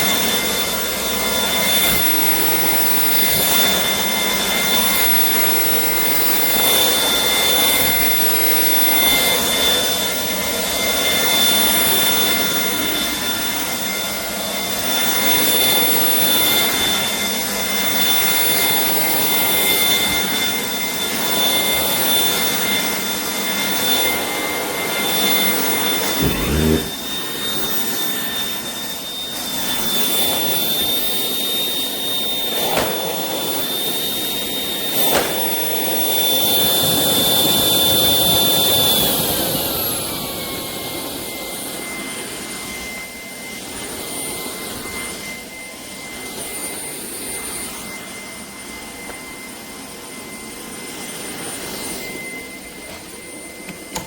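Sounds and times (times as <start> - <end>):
cordless vacuum cleaner running: 0.0 - 54.0.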